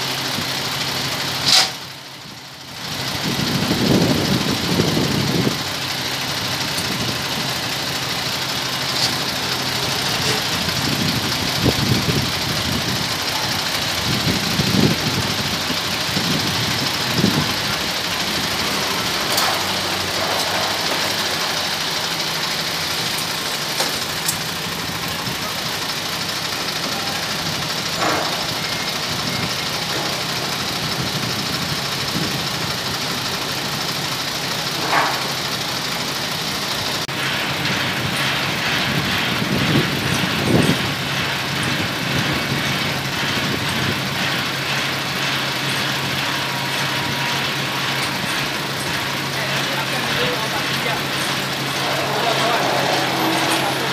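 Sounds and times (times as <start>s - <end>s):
truck diesel engine idling: 0.0s - 53.9s.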